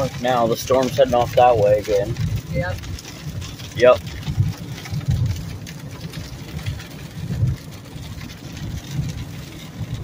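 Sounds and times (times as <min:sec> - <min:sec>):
rain ticking on windshield: 0:00.0 - 0:10.0
road and engine rumble: 0:00.0 - 0:10.0
tyres hissing on wet pavement: 0:00.0 - 0:10.0.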